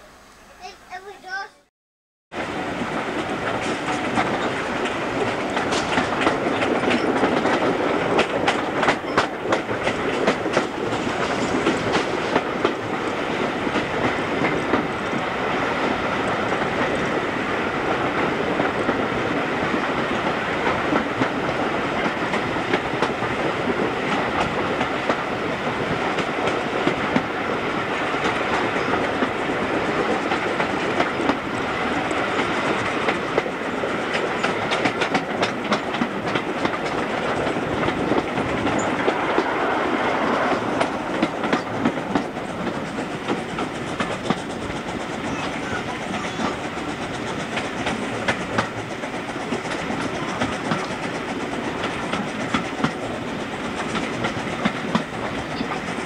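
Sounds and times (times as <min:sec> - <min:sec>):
train wheels clickety-clack: 0:02.4 - 0:56.0.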